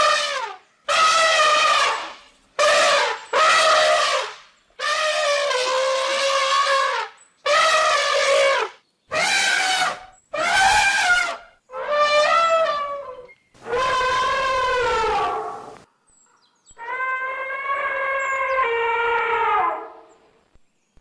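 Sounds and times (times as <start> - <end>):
elephant trumpeting: 0.0 - 15.8, 16.8 - 20.0.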